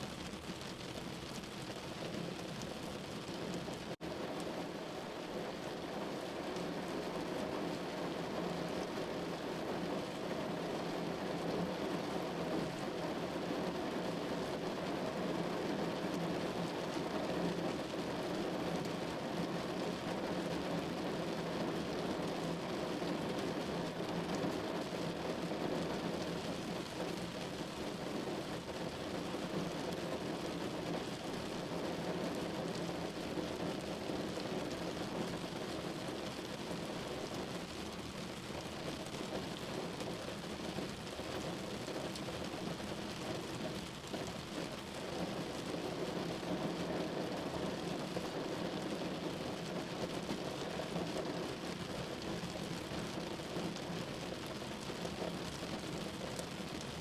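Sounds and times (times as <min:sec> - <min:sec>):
rain falling on a window: 0:00.0 - 0:57.0.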